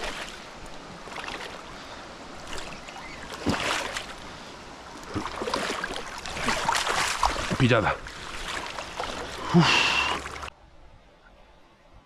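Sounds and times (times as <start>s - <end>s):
fast river rushing: 0.0s - 10.5s.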